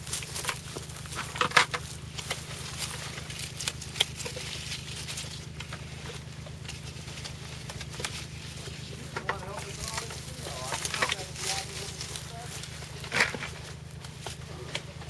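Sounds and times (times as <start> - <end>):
steady low hum: 0.0 - 15.0
vine leaves rustling: 0.0 - 15.0.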